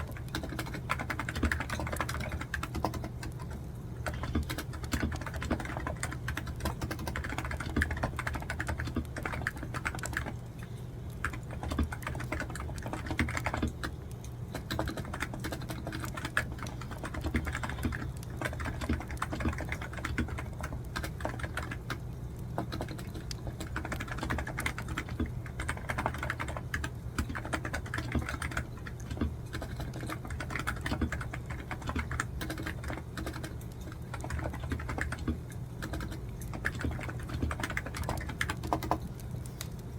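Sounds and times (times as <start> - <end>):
keyboard typing: 0.0 - 39.9
steady low hum: 0.0 - 39.9.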